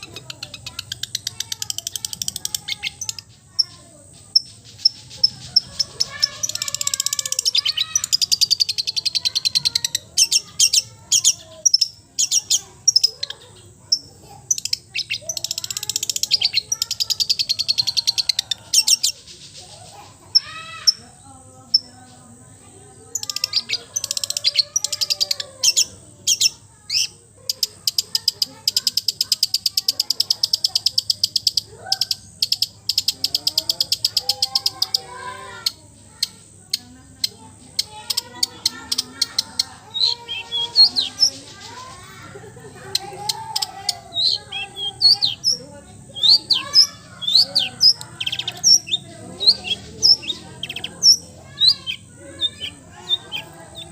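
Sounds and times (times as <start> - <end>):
songbird chattering: 0.0 - 53.9.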